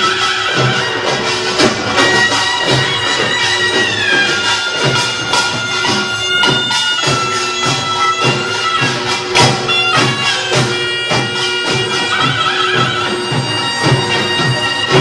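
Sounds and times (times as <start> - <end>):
drums and gongs beating: 0.0 - 15.0
nasal reed pipe melody: 0.0 - 15.0.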